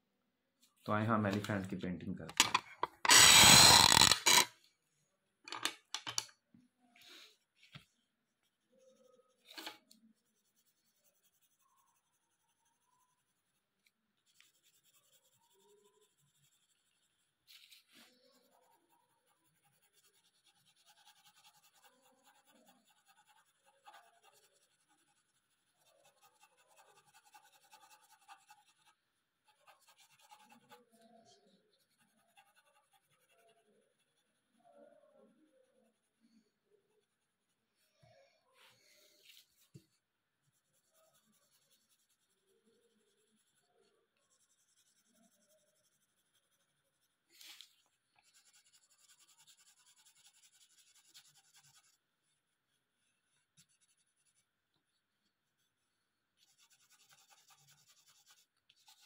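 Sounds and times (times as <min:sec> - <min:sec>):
pencil scratching on paper: 0:03.0 - 0:04.5, 0:07.1 - 0:37.6, 0:39.0 - 0:59.0.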